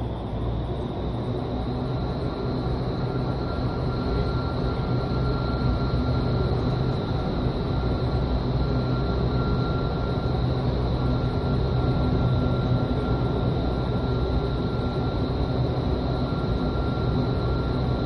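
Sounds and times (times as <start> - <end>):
wind tunnel air rush and fan drone: 0.0 - 18.0.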